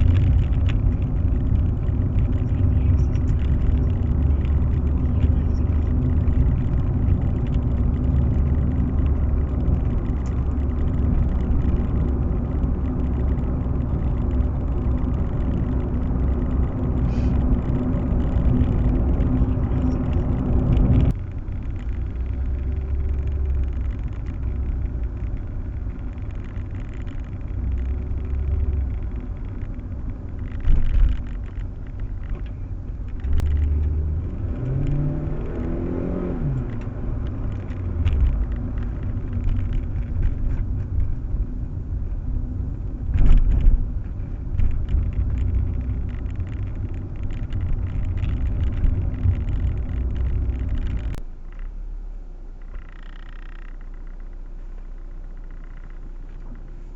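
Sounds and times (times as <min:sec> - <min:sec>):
car engine and road noise: 0:00.0 - 0:56.9.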